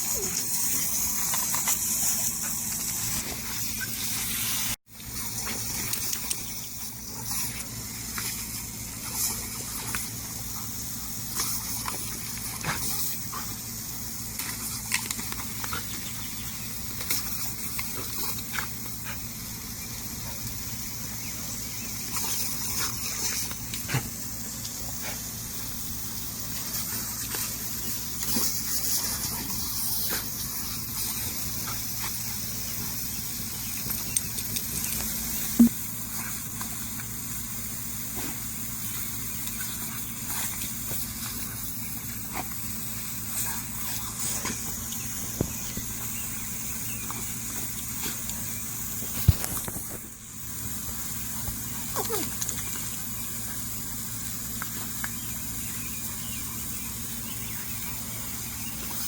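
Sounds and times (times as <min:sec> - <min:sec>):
lawn sprinkler spraying water: 0:00.0 - 0:59.0.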